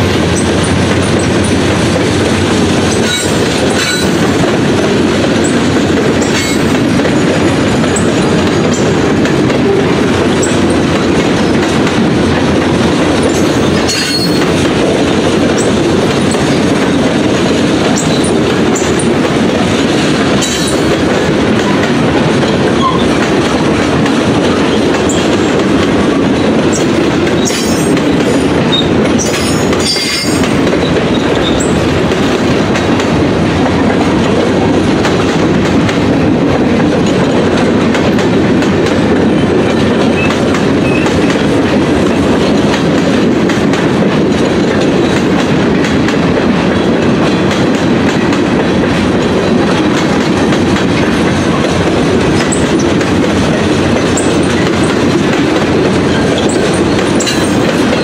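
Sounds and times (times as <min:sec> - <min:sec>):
railcar knocks: 0:00.0 - 0:58.0
train wheels rumbling on track: 0:00.0 - 0:58.0.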